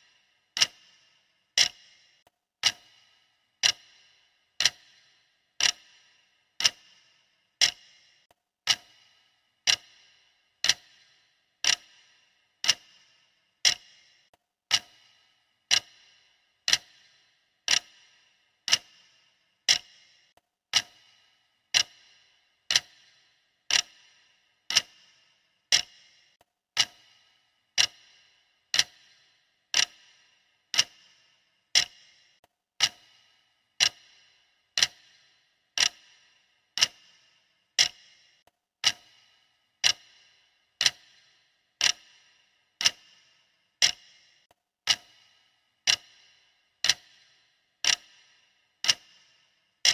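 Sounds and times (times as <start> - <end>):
clock ticking: 0.0 - 49.9.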